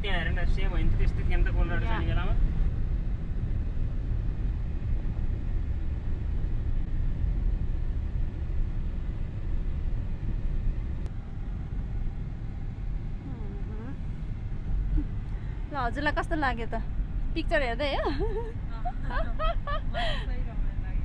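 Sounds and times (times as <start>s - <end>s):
car driving rumble from inside: 0.0s - 21.0s.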